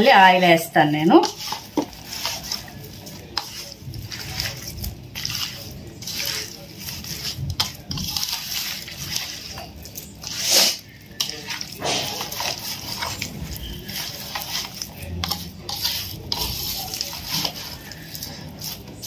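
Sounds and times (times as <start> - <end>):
wet squelching by hand in bowl: 0.0 - 19.0.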